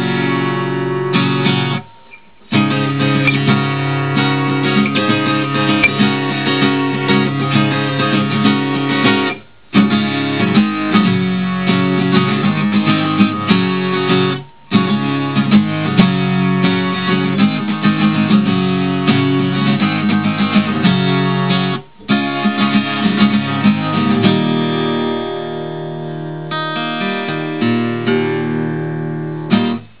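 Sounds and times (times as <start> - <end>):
fingerpicked acoustic guitar: 0.0 - 30.0.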